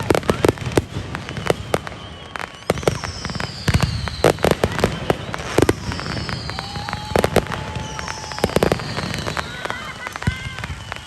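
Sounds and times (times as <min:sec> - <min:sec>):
falling firework whistle: 0:00.0 - 0:11.0
fireworks banging: 0:00.0 - 0:11.0.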